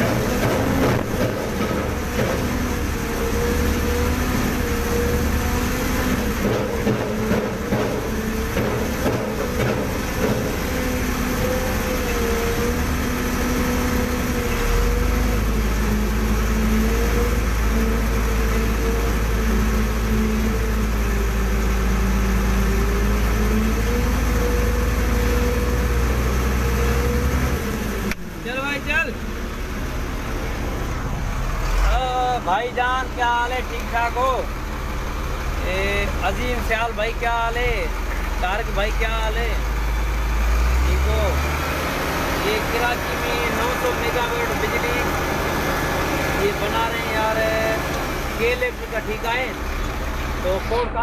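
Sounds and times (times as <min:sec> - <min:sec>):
crane engine and hydraulics whine: 0:00.0 - 0:51.0.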